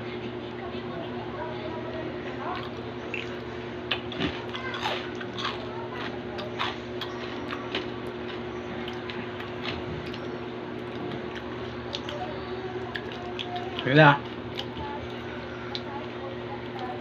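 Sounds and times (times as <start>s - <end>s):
steady low hum: 0.0s - 17.0s
chewing and crunching: 0.1s - 17.0s.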